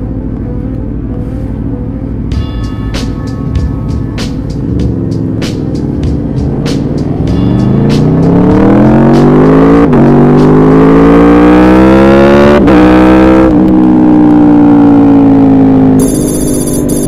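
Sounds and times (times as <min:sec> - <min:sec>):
quick gear upshifts: 0:00.0 - 0:17.0
motorcycle engine accelerating hard: 0:02.2 - 0:17.0.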